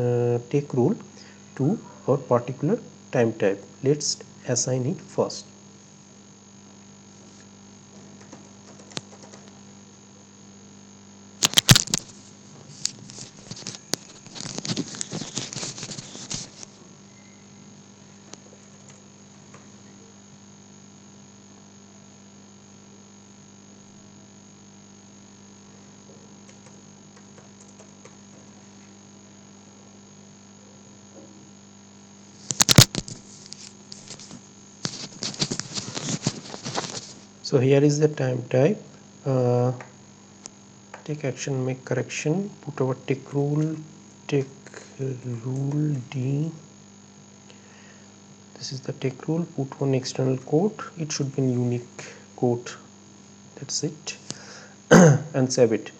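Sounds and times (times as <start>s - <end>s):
low electrical hum: 0.0s - 55.9s.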